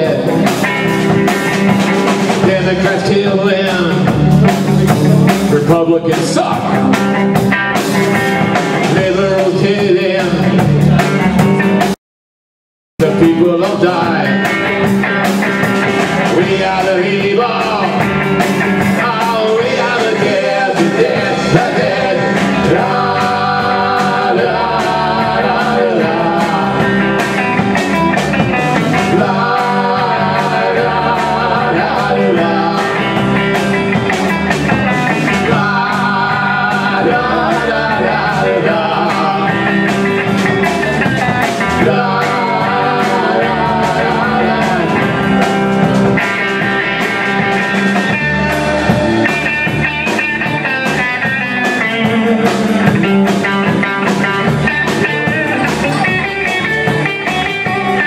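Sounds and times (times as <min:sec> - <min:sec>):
drum kit: 0:00.0 - 0:12.0, 0:13.0 - 0:58.0
electric guitars: 0:00.0 - 0:12.0, 0:13.0 - 0:58.0.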